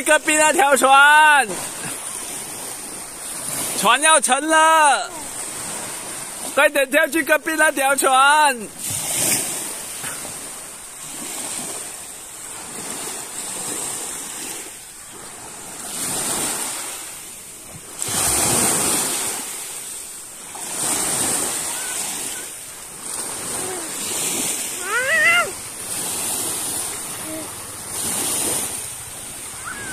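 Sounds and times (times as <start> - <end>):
small waves lapping: 0.0 - 29.9.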